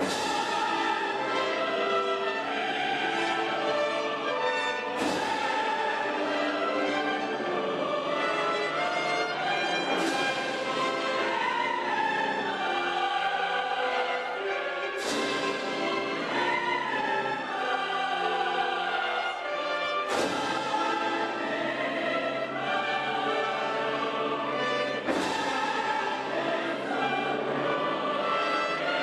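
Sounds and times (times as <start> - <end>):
opera chorus singing: 0.0 - 29.0
orchestra: 0.0 - 29.0.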